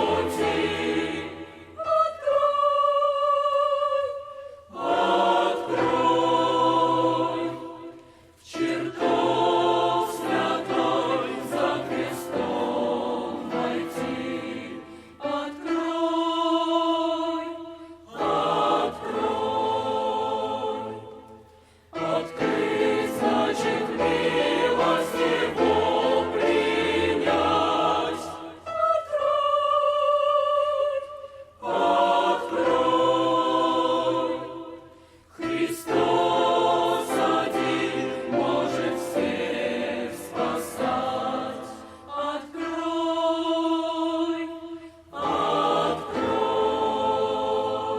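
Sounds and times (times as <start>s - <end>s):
choir singing a hymn: 0.0s - 47.9s.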